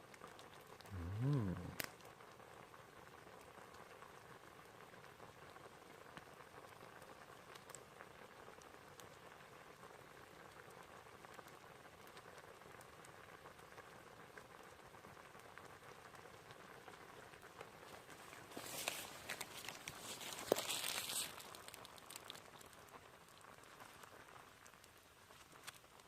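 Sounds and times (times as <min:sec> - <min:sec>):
water boiling in a pot: 0:00.0 - 0:26.0.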